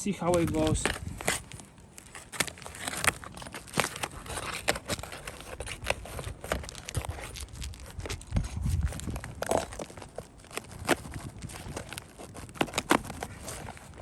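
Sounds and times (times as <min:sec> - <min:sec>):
roof shingle crackling and tearing: 0:00.0 - 0:14.0.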